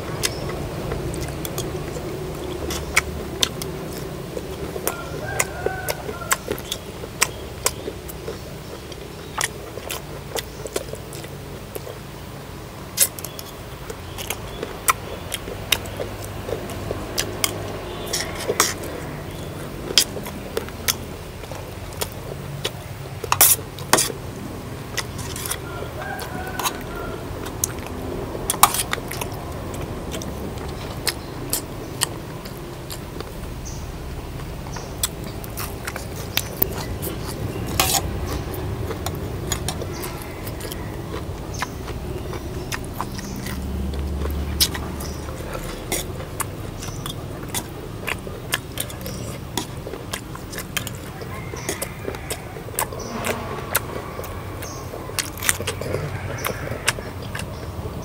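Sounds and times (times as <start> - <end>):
crunching and chewing food: 0.0 - 58.0
steady low hum: 0.0 - 58.0.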